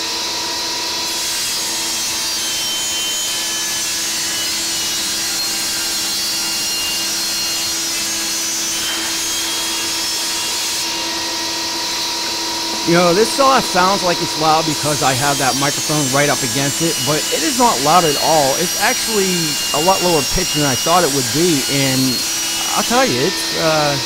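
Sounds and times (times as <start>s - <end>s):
table saw motor hum: 0.0s - 24.0s
saw blade cutting wood: 1.0s - 24.0s.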